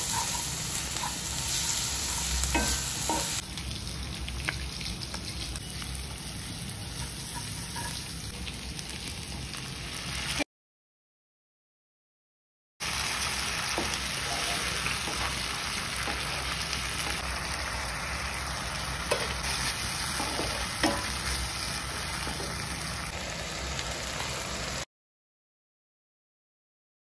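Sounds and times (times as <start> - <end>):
puree sizzling in a pan: 0.0 - 10.5, 12.8 - 24.9.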